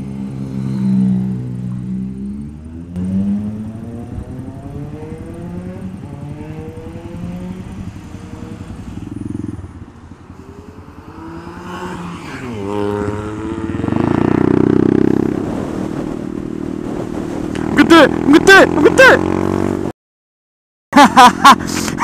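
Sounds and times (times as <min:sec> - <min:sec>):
motorcycle engine revving through gears: 0:00.0 - 0:19.9.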